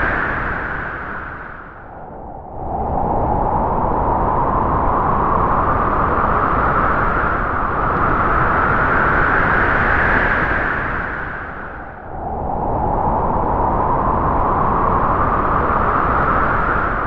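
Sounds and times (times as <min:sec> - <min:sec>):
howling wind: 0:00.0 - 0:17.0.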